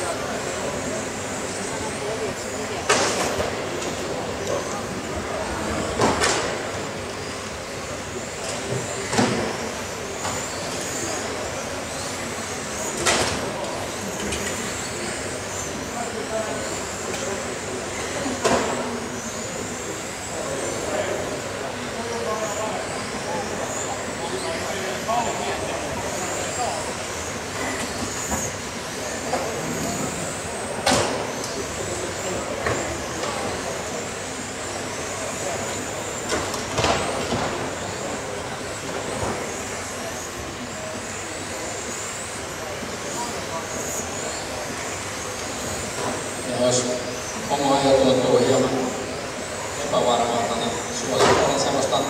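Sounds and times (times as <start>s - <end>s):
electric motors whining: 0.0s - 52.0s.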